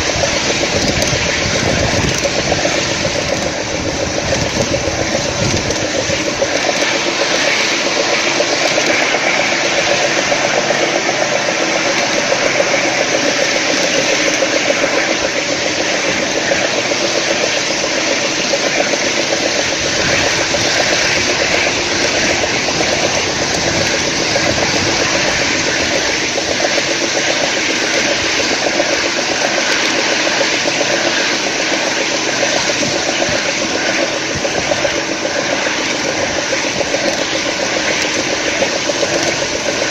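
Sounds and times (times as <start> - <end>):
miniature locomotive drive hum: 0.0 - 39.9
wheels rumbling on rails: 0.0 - 39.9.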